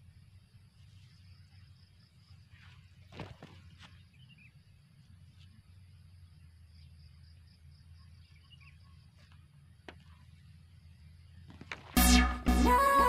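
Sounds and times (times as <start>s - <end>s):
faint bird chirps: 0.0s - 11.7s.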